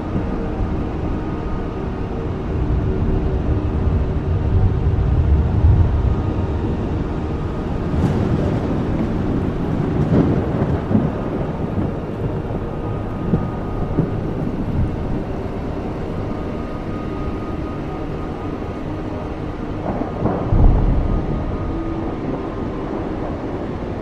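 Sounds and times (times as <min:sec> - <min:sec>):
steady rain: 0:00.0 - 0:24.0
thunder rumbling: 0:00.0 - 0:24.0.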